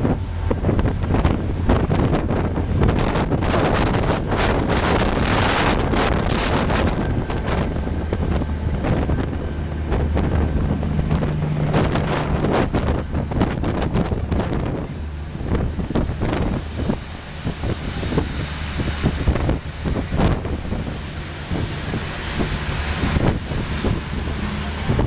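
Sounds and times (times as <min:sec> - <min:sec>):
locomotive engine humming: 0:00.0 - 0:25.0
wind buffeting microphone: 0:00.0 - 0:25.0.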